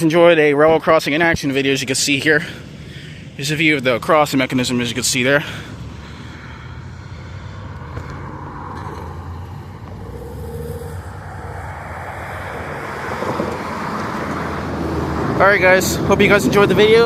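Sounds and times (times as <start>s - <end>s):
rushing road traffic: 1.0s - 17.0s
vehicle engine humming: 1.7s - 17.0s.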